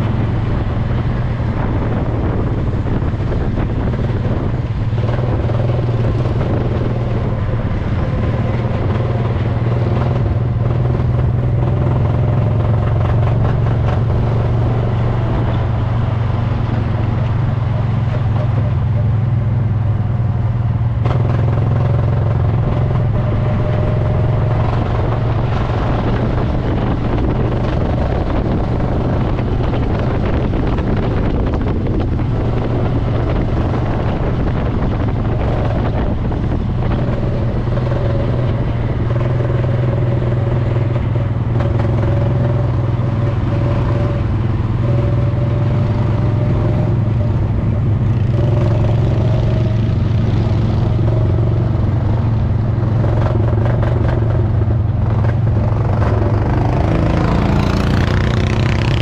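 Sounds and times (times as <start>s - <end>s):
go-kart engine droning: 0.0s - 59.0s.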